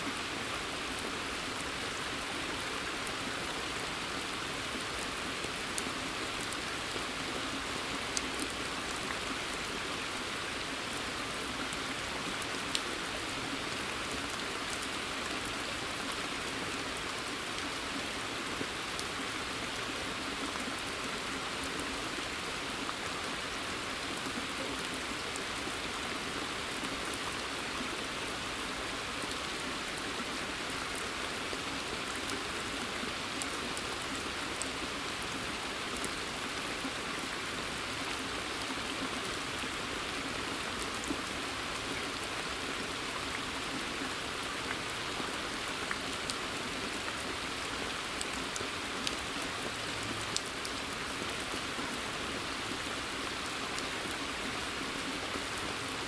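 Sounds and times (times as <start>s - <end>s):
rain hiss in woodland: 0.0s - 56.0s.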